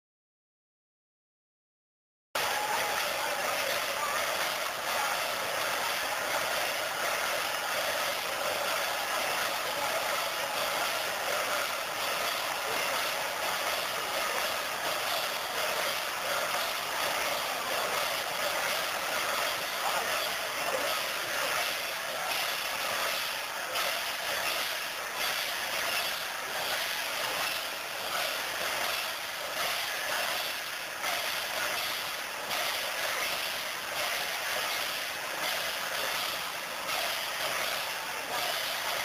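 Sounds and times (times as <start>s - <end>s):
dense crowd din: 2.4s - 39.0s.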